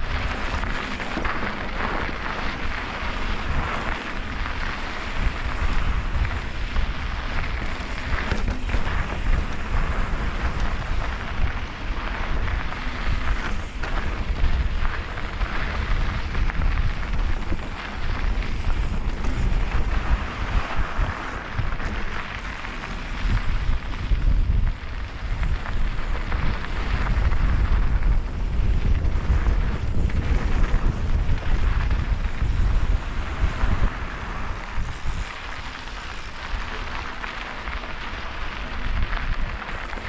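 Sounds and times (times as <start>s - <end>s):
bike rattling over bumps: 0.0s - 40.0s
tyres crunching on loose dirt: 0.0s - 40.0s
wind buffeting microphone: 0.0s - 40.0s.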